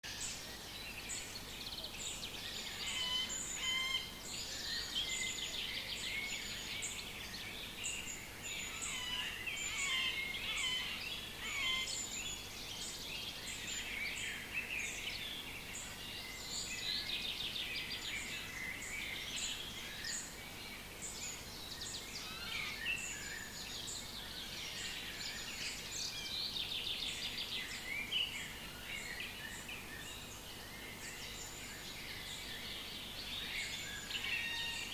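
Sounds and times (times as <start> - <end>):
wild birds singing: 0.0 - 34.9.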